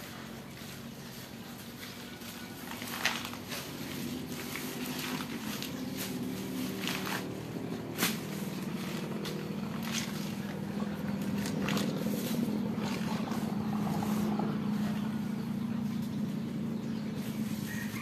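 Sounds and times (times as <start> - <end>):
motor humming: 0.9 - 18.0.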